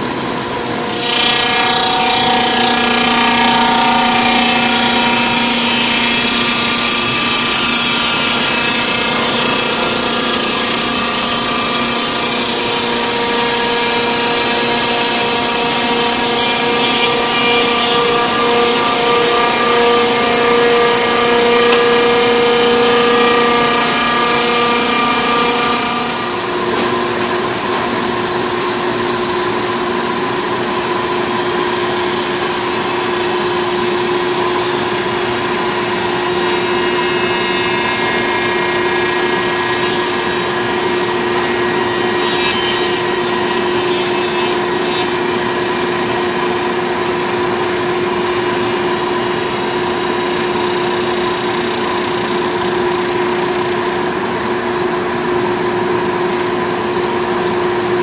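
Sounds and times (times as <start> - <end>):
log-milling machine cutting log: 0.0 - 58.0.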